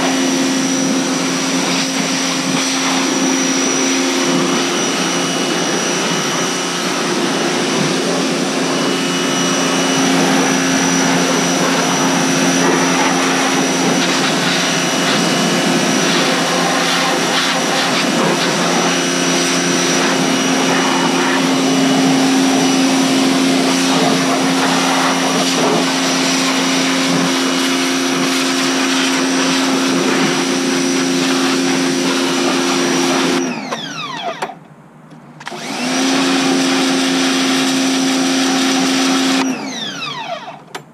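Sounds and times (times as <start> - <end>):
water jet hissing: 0.0 - 33.4
pressure washer motor humming: 0.0 - 34.6, 35.4 - 40.9.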